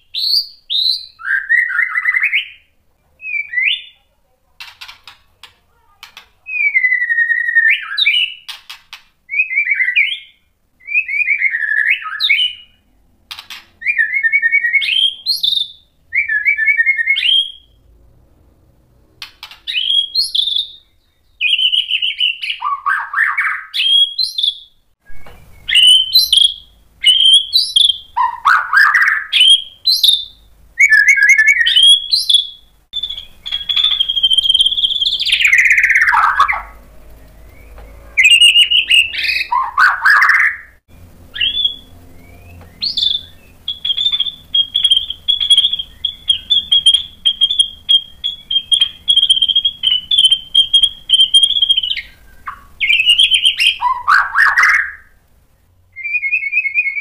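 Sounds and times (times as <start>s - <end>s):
bird singing whistled phrases: 0.0s - 4.0s, 6.1s - 8.5s, 9.3s - 12.8s, 13.5s - 17.8s, 19.4s - 55.2s, 55.9s - 57.0s.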